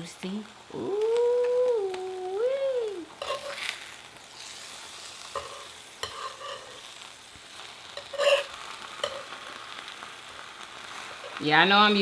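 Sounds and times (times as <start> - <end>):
food sizzling on a grill: 0.0 - 12.0.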